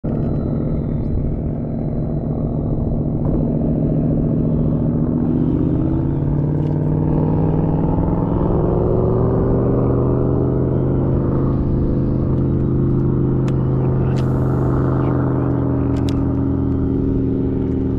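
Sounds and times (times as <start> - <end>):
low rumble: 0.0 - 17.9
motor running with rising pitch: 0.0 - 17.9.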